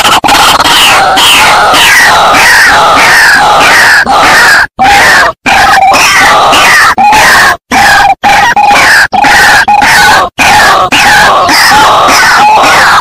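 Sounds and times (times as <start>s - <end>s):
waterhens calling harshly: 0.0s - 13.0s.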